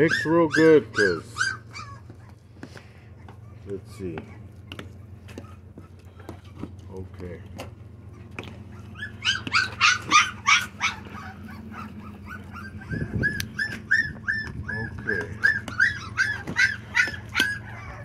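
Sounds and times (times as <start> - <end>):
puppies whining and yelping: 0.0 - 7.0, 7.6 - 18.0.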